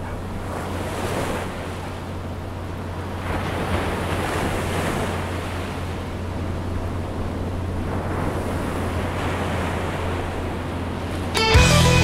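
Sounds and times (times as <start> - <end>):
ocean surf washing on beach: 0.0 - 11.6.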